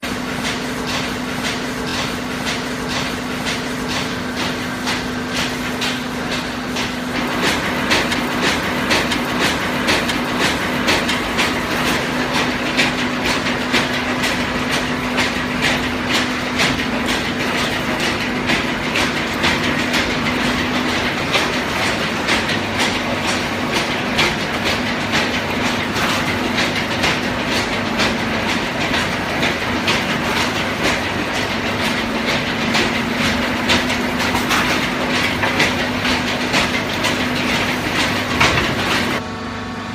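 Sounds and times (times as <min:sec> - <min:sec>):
dense irregular clatter: 0:00.2 - 0:39.2.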